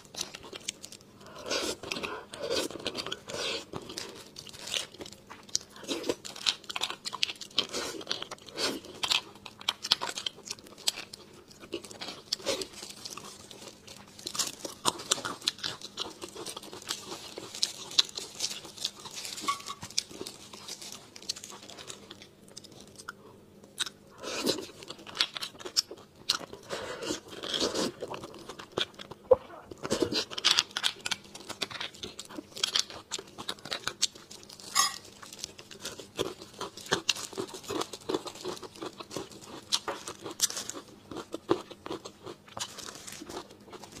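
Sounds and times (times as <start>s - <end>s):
person chewing crunchy toast: 0.0s - 44.0s.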